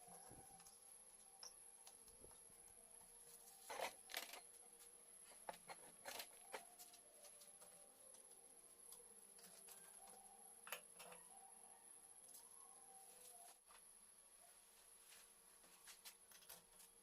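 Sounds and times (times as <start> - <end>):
faint steady high whine: 0.0 - 17.0.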